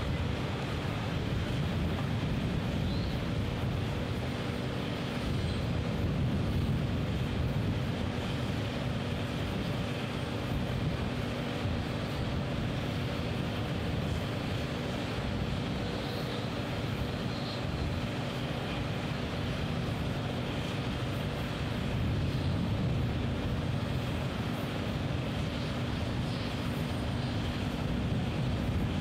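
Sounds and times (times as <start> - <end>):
engine-driven machinery droning: 0.0 - 29.0.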